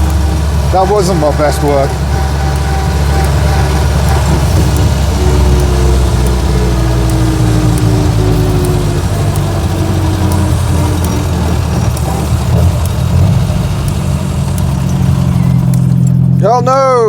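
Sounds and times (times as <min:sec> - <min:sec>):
small car engine running: 0:00.0 - 0:17.0.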